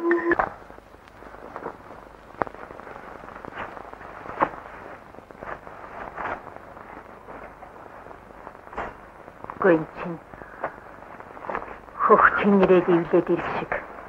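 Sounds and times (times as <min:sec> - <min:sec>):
faint clicks and crackles: 0:00.0 - 0:14.0
steady hiss: 0:00.0 - 0:14.0.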